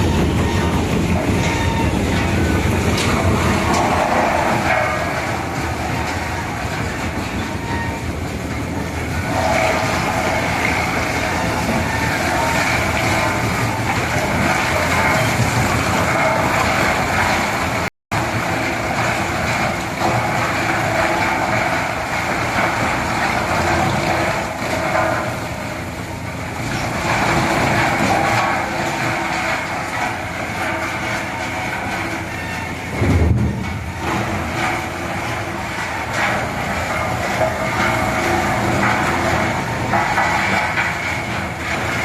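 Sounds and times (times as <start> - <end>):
wood chipper running: 0.0 - 42.0.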